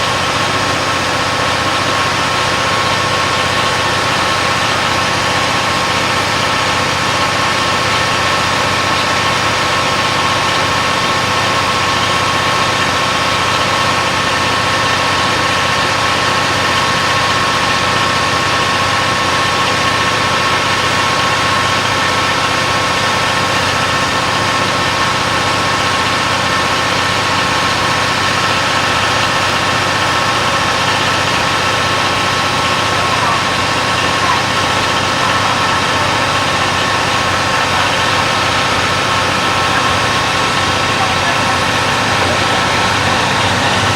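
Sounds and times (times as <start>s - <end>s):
diesel engines idling: 0.0s - 43.9s.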